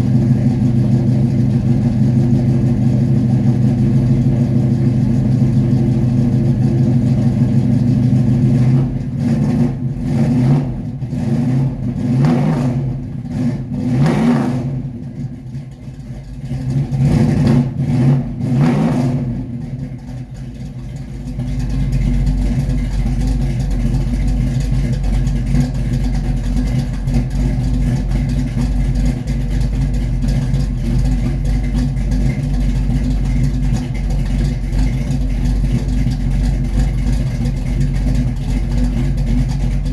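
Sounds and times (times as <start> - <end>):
car engine revving: 0.0 - 15.4, 16.4 - 20.2, 21.6 - 39.9
car engine idling: 0.0 - 39.9.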